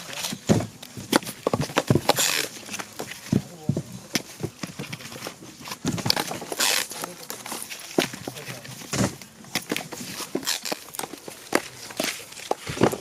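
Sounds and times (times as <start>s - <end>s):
firework tubes knocking and rustling: 0.0s - 13.0s.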